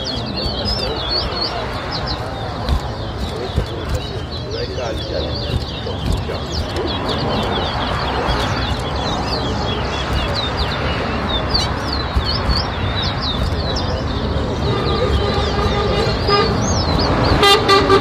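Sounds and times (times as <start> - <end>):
finch singing: 0.0 - 18.0
traffic noise: 0.0 - 18.0.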